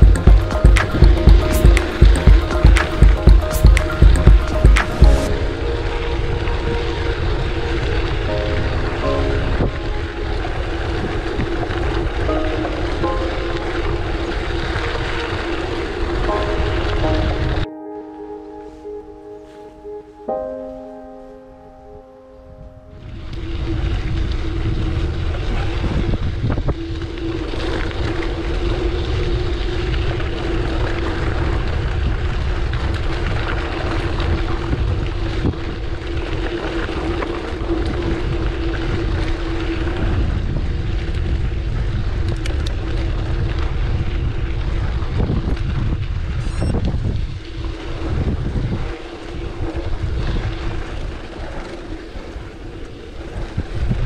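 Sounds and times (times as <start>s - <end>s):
wind buffeting microphone: 0.0s - 17.7s, 22.4s - 54.0s.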